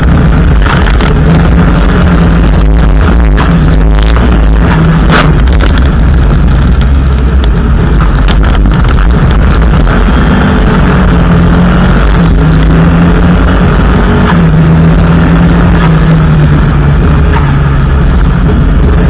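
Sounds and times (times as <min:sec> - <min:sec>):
gravel striking car: 0:00.0 - 0:19.0
rally car engine running hard: 0:00.0 - 0:19.0.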